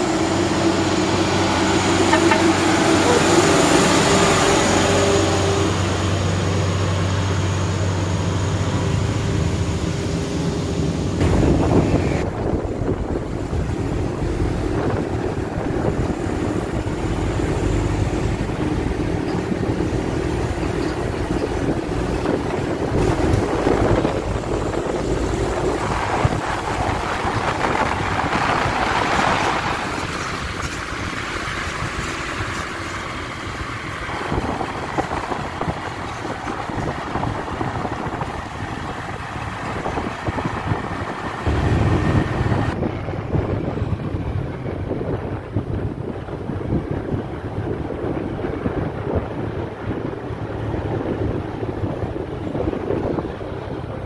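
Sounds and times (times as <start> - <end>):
vehicle engine running: 0.0 - 54.0
wind buffeting microphone: 0.0 - 54.0.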